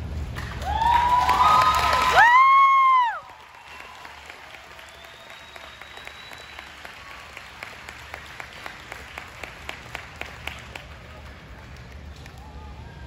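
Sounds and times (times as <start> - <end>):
crowd clapping in time: 0.2 - 12.6.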